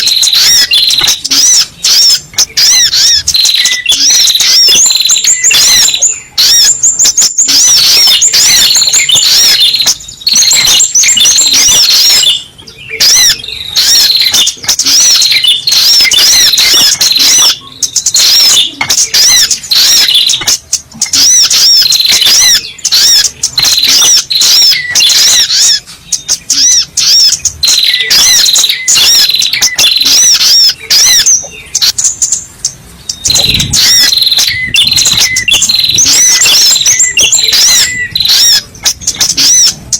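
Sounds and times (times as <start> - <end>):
bird high chirping notes: 0.0 - 39.9.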